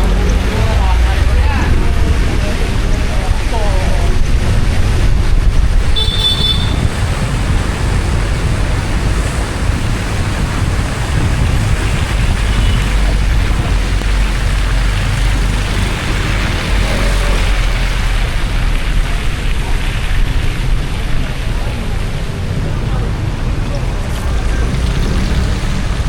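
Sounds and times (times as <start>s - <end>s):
road and wind noise from car: 0.0s - 26.0s.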